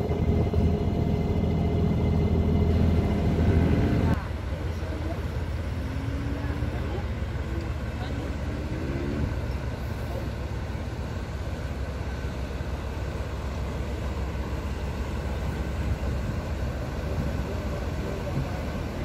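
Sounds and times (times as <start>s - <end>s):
boat diesel engines rumbling: 0.0s - 19.0s
water wash: 0.0s - 19.0s.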